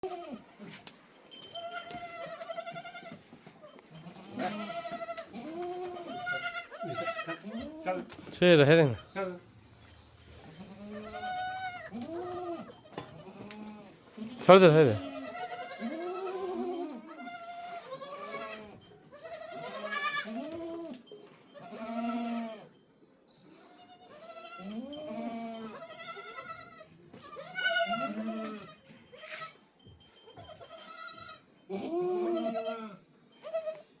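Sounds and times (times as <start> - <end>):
goats bleating: 1.4 - 9.4, 10.4 - 21.0, 21.6 - 22.7, 23.6 - 29.6, 30.2 - 33.8.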